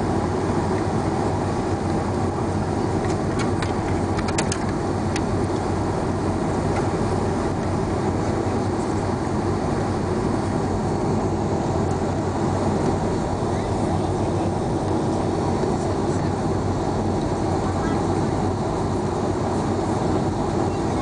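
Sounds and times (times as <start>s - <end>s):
jet engines idling: 0.0s - 21.0s
low rumble of airframe rolling: 0.0s - 21.0s.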